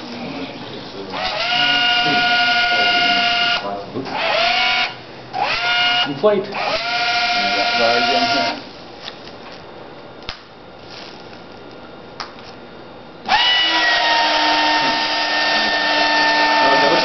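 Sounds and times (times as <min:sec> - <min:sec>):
electric fans whining: 0:00.0 - 0:17.0.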